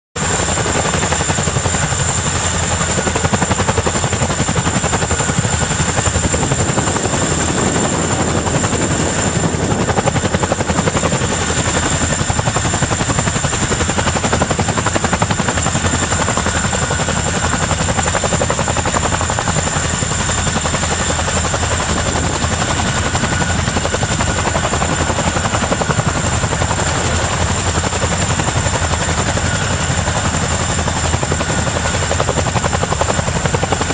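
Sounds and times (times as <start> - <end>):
helicopter rotor chop: 0.2 - 33.9
high turbine whine: 0.2 - 33.9.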